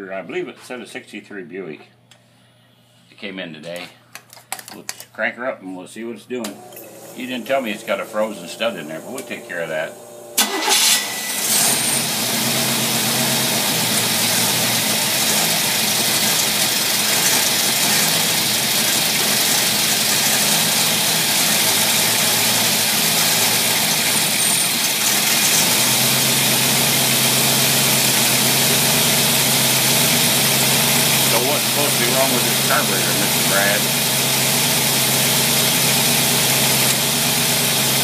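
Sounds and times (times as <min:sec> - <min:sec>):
engine cranking and idling: 0:06.4 - 0:38.0.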